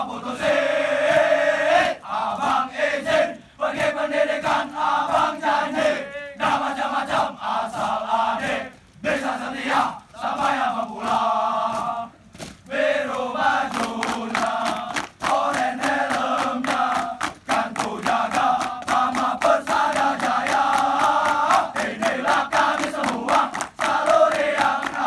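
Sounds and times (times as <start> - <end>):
group chanting a cheer: 0.0 - 12.1, 12.7 - 25.0.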